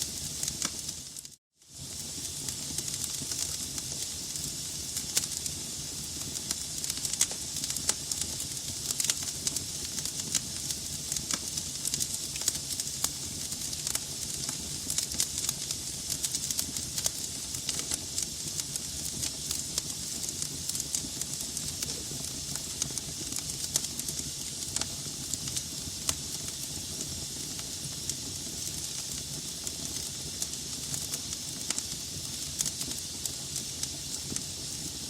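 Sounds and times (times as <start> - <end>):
log fire crackling and popping: 0.0 - 35.0.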